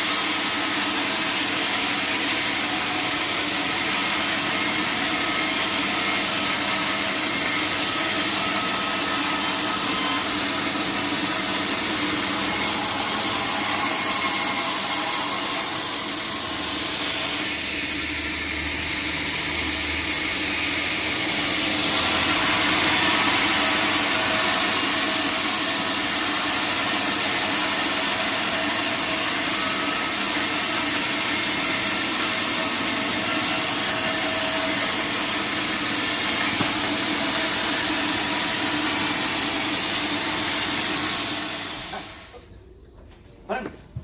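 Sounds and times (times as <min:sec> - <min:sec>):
bandsaw cutting log: 0:00.0 - 0:42.4.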